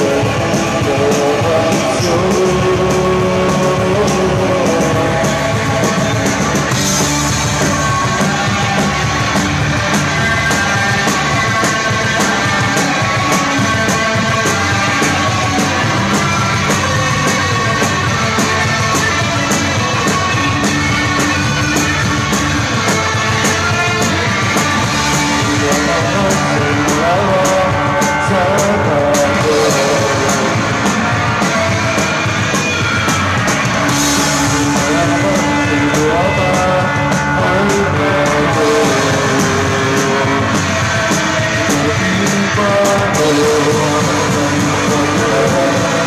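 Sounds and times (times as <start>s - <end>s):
electric guitar: 0.0s - 46.0s
steady drum beat: 0.0s - 46.0s.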